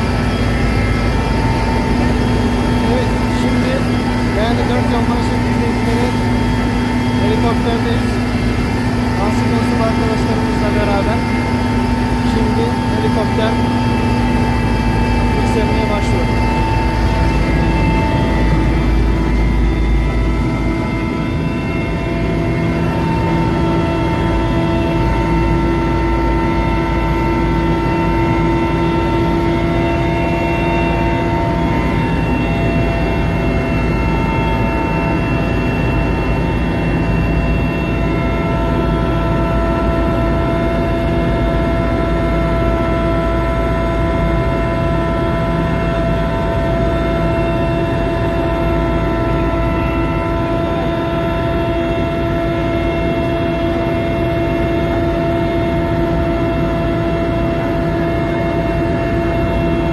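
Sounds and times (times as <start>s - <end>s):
helicopter rotor and engine drone: 0.0s - 59.9s
turbine whines: 0.0s - 59.9s.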